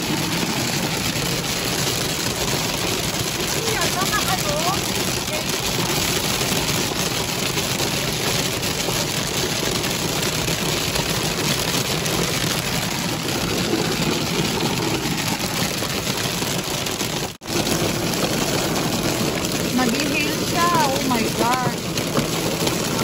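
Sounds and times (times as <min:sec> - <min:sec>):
heavy rain on car windshield: 0:00.0 - 0:23.0.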